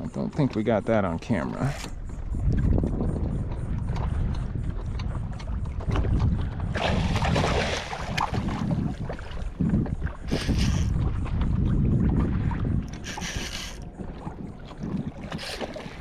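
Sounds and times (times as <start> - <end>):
water splashing: 0.0 - 16.0
wind on microphone: 0.0 - 16.0.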